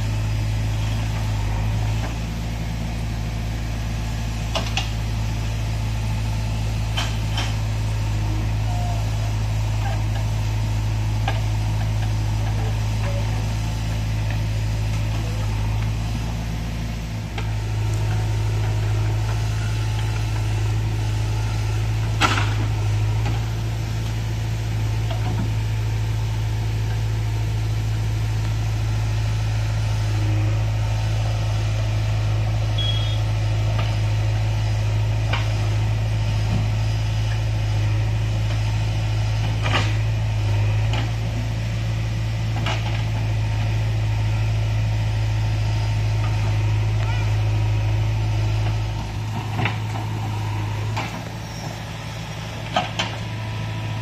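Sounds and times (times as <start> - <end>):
diesel digger engine under load: 0.0 - 54.0
tractor diesel engine idling: 0.0 - 54.0.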